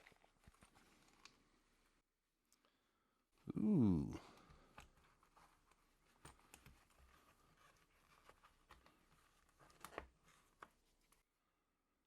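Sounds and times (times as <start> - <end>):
faint clicks and rustles of handling: 0.0 - 2.9, 4.2 - 11.8.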